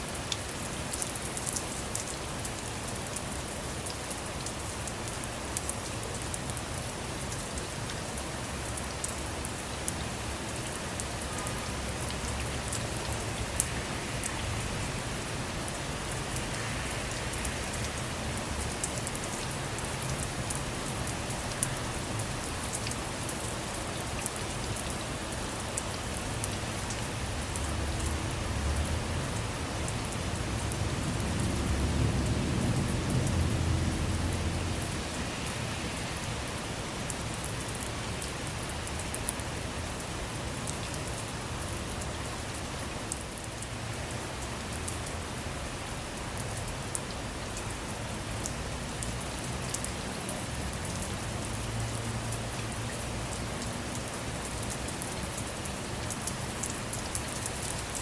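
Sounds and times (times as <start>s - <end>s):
rain falling on a car: 0.0s - 58.0s.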